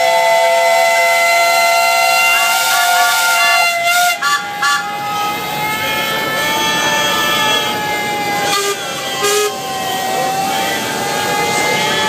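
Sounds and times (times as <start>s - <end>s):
steam whistles blowing chord: 0.0s - 12.0s.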